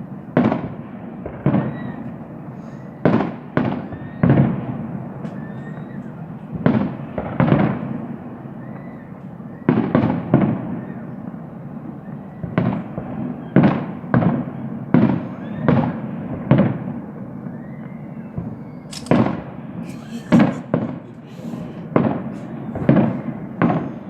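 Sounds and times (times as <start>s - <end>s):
fireworks bangs: 0.0s - 24.0s
faint firework whistles: 0.4s - 19.5s, 20.3s - 24.0s.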